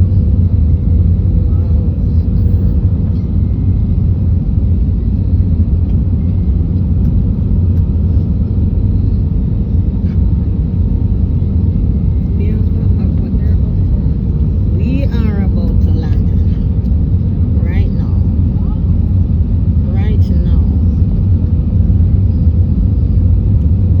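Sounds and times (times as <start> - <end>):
airliner cabin rumble: 0.0 - 24.0
faint steady hum: 0.0 - 24.0.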